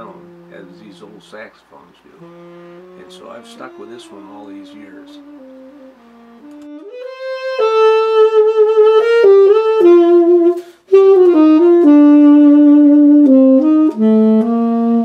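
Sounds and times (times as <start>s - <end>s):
tenor saxophone melody: 0.0s - 1.5s, 2.1s - 15.0s.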